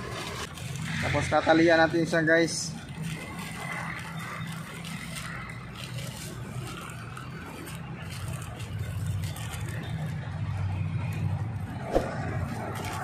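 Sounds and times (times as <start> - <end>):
plastic wrap crinkling: 0.0 - 10.6.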